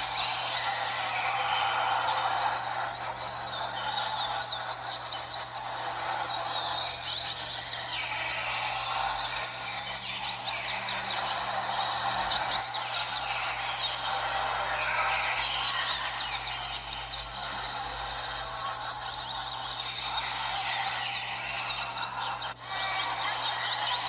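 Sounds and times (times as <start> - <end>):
birds chirping songs: 0.0 - 24.0
steady background noise: 0.0 - 24.0.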